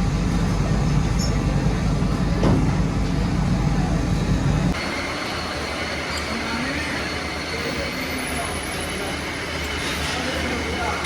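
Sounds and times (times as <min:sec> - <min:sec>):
factory machinery rumble: 0:00.0 - 0:11.0.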